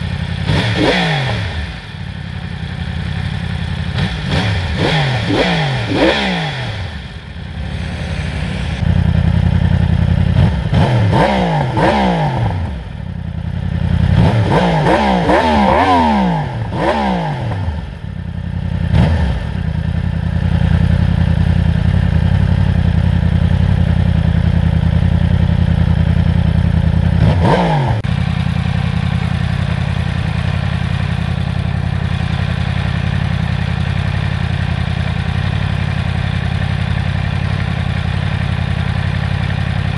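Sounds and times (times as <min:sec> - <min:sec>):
motorcycle engine idling: 0:00.0 - 0:39.9
motorcycle engine revving: 0:00.0 - 0:39.9.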